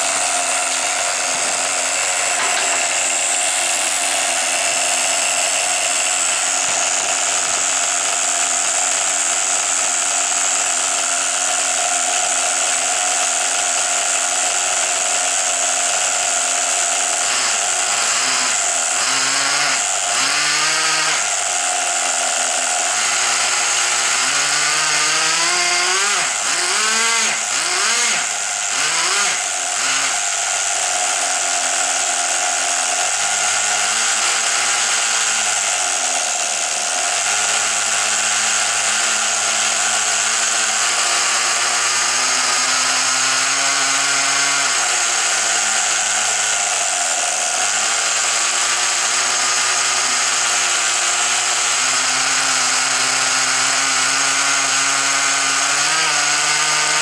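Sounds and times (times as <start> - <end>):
model car engine revving: 0.0 - 14.4, 16.0 - 57.0.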